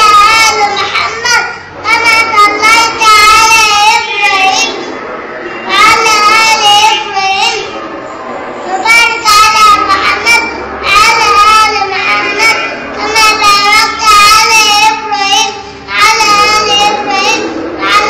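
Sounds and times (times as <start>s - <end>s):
boy chanting prayer: 0.0s - 4.9s, 5.6s - 7.9s, 8.6s - 18.0s.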